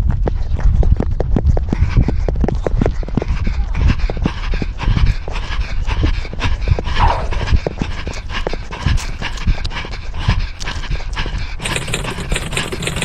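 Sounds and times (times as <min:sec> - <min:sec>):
constant rumble: 0:00.0 - 0:13.0
cat panting fast: 0:00.3 - 0:13.0.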